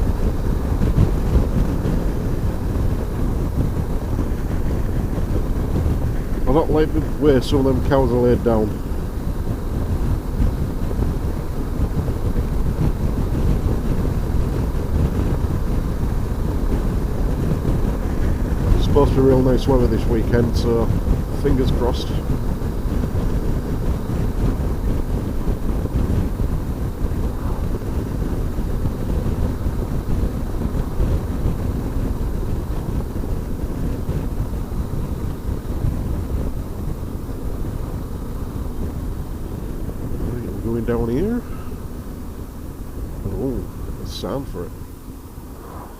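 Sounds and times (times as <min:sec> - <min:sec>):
motorcycle engine rumble: 0:00.0 - 0:45.9
wind rushing over microphone: 0:00.0 - 0:45.9.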